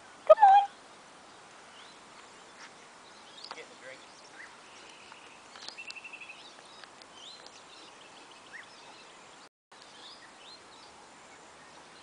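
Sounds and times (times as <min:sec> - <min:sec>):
faint birds calling: 0:00.2 - 0:12.0.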